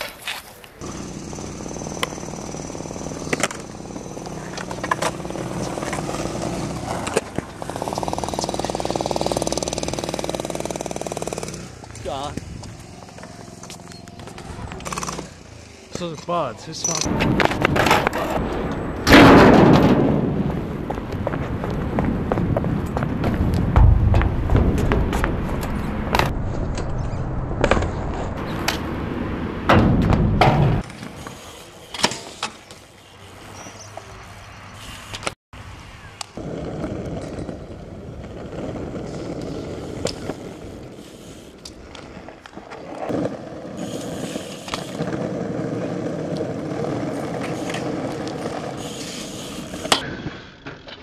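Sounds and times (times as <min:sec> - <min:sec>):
bike tyres rolling on concrete: 0:00.0 - 0:51.0.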